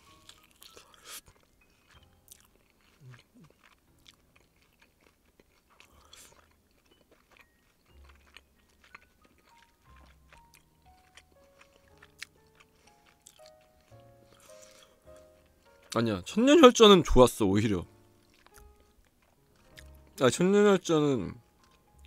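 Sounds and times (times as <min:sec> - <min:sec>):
faint chewing: 0:00.0 - 0:20.4, 0:21.3 - 0:22.0
quiet background music: 0:00.0 - 0:22.0.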